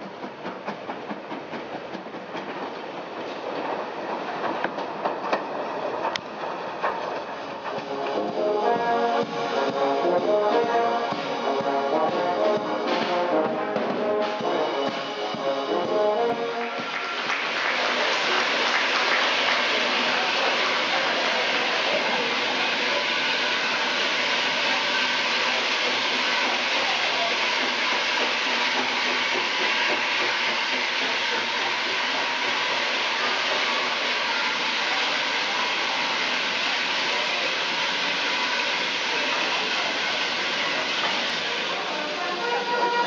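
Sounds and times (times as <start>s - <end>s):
railway noise: 0.0s - 43.0s
steam locomotive hissing: 0.0s - 43.0s.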